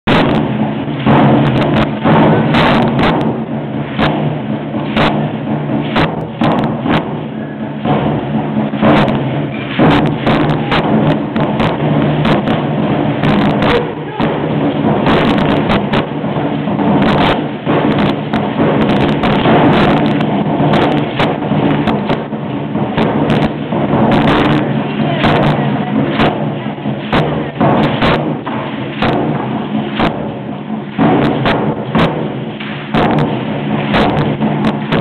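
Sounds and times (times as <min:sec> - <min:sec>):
dance percussion beats and rattling: 0:00.0 - 0:35.0
steady low hum: 0:00.0 - 0:35.0.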